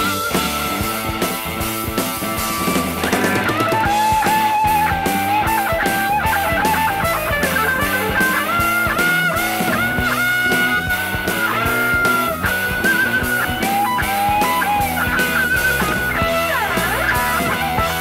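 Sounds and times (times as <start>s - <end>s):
electric guitar lead: 0.0s - 18.0s
hard rock band playing: 0.0s - 18.0s.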